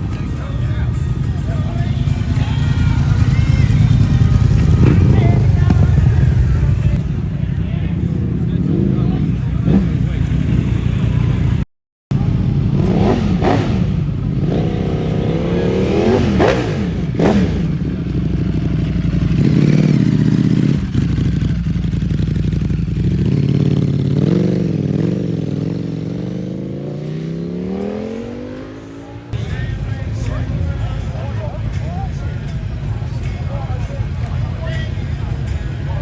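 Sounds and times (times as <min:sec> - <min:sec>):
vehicle engine revving: 0:00.0 - 0:07.0, 0:08.3 - 0:36.0.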